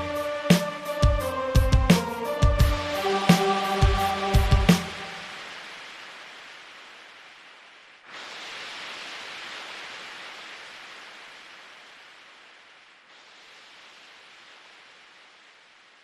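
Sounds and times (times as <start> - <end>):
rushing wind-like hiss: 0.0 - 16.0.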